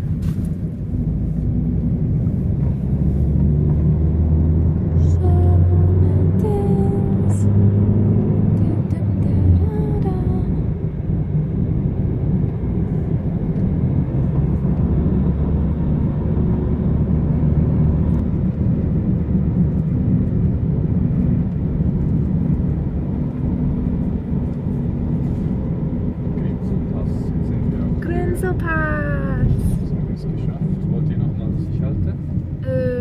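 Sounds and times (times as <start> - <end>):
car engine rumble: 0.0 - 33.0
road noise: 0.0 - 33.0.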